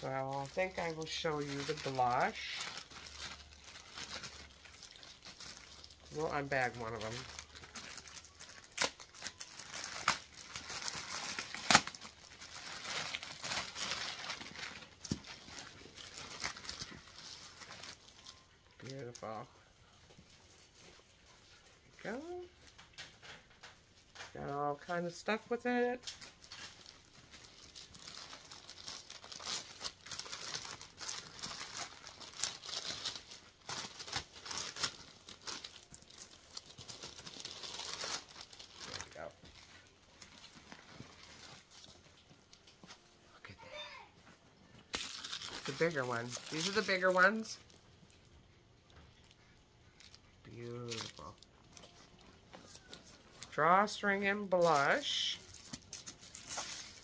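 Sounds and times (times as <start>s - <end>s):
plastic bag crinkling: 0.0s - 43.8s, 44.6s - 57.0s.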